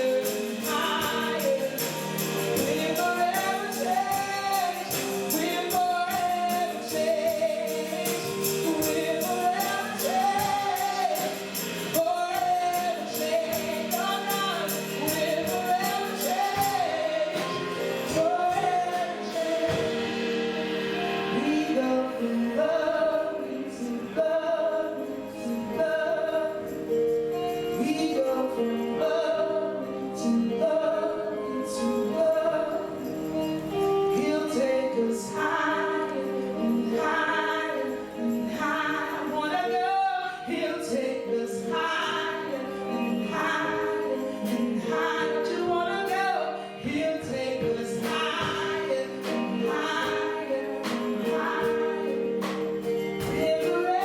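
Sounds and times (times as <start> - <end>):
gospel singers: 0.0 - 54.0.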